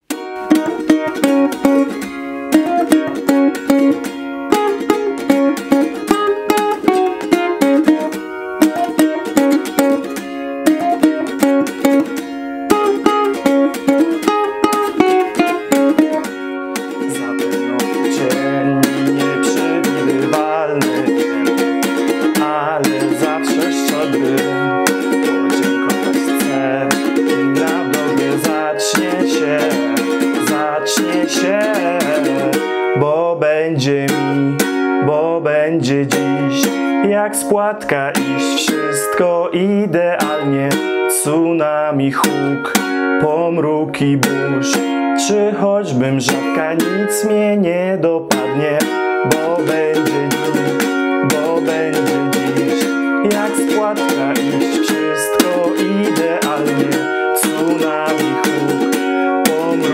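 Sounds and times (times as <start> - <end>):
recorded pop band music: 0.0 - 59.9
ukulele strumming: 0.0 - 59.9
person singing: 0.4 - 59.9.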